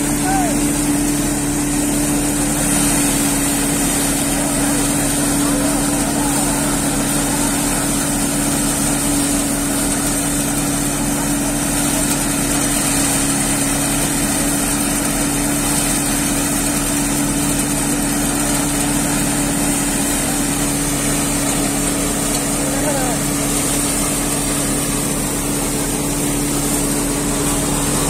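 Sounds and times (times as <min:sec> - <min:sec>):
thresher humming: 0:00.0 - 0:28.0.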